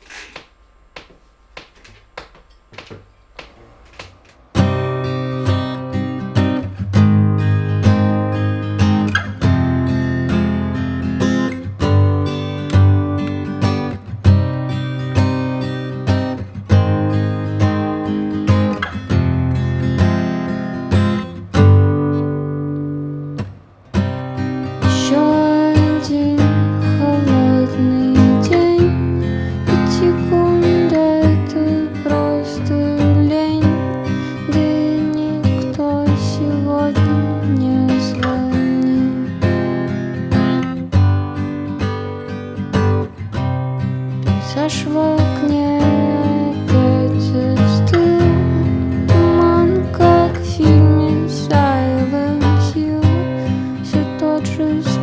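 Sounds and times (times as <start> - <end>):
acoustic guitar strumming chords: 4.5 - 55.0.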